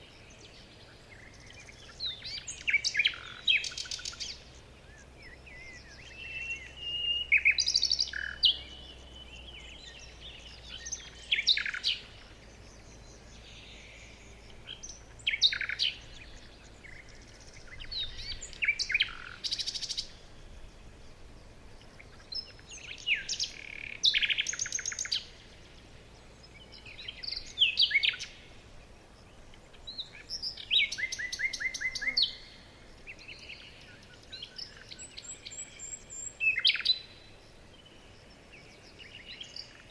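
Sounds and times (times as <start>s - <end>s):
faint background hiss: 0.0s - 39.9s
songbirds singing: 0.0s - 39.9s.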